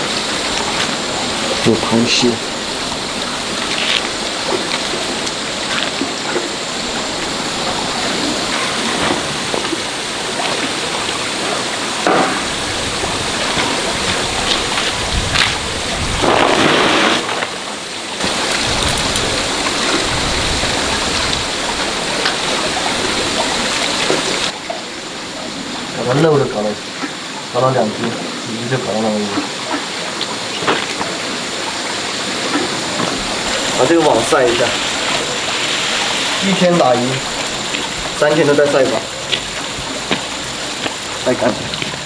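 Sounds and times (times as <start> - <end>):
hiss of water: 0.0 - 42.0.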